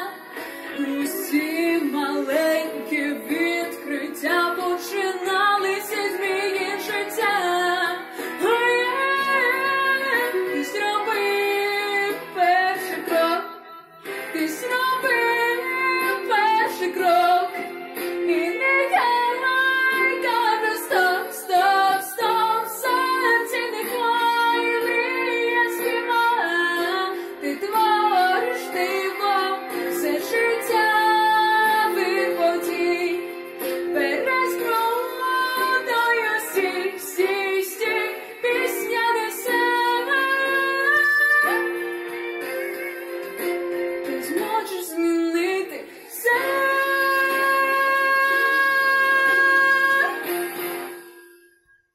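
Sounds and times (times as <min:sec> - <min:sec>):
woman singing: 0:00.0 - 0:42.1, 0:44.0 - 0:50.5
instrumental accompaniment: 0:00.0 - 0:51.8.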